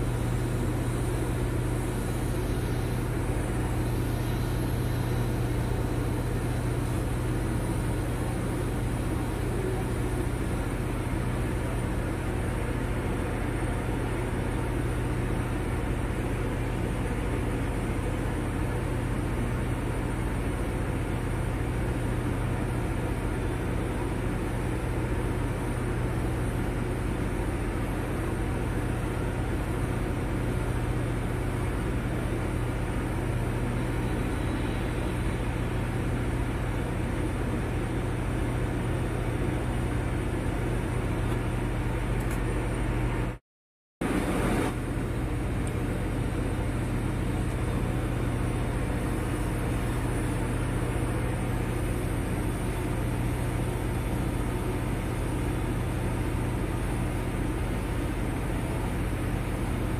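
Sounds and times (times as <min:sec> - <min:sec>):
low machine hum: 0:00.0 - 0:43.4, 0:44.0 - 0:59.9.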